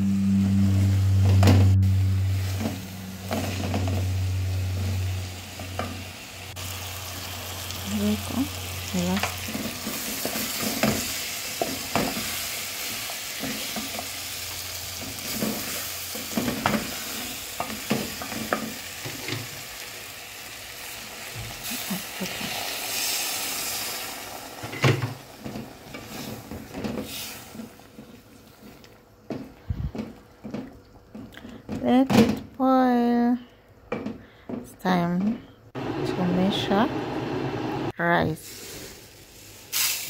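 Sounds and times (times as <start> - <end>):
food sizzling: 0.0 - 31.3, 35.8 - 40.0.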